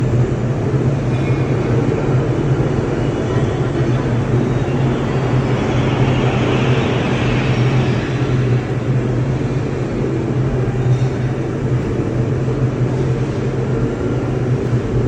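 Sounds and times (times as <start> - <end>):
industrial furnace hum and crackle: 0.0 - 15.0.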